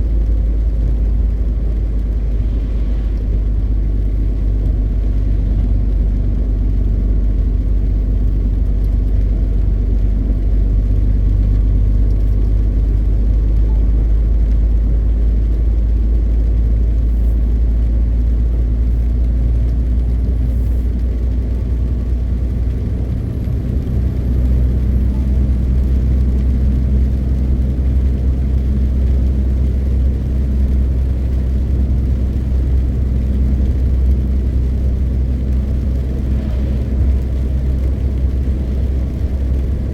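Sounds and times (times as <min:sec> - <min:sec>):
road noise: 0:00.0 - 0:39.9
truck diesel engine rumble: 0:00.0 - 0:39.9.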